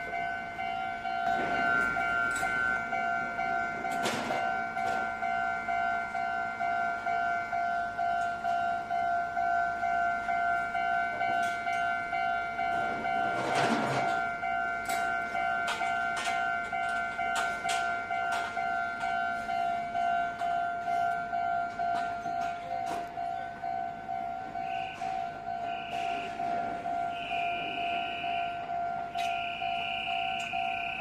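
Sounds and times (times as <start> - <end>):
level crossing warning bell: 0.0 - 31.0.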